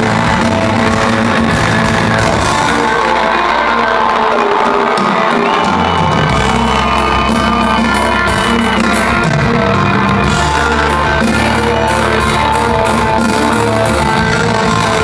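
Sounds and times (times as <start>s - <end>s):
bass guitar: 0.0s - 15.0s
drums: 0.0s - 15.0s
electric guitar: 0.0s - 15.0s.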